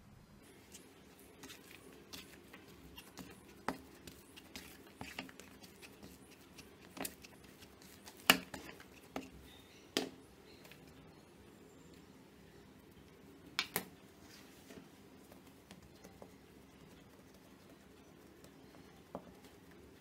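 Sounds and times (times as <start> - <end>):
hands kneading soft dough: 0.4 - 11.2, 12.0 - 20.0.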